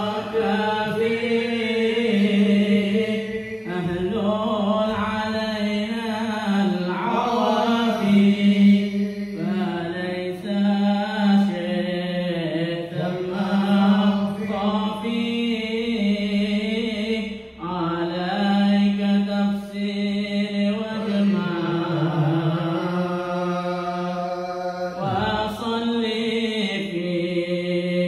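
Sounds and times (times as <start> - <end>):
man chanting into a microphone: 0.0 - 28.0.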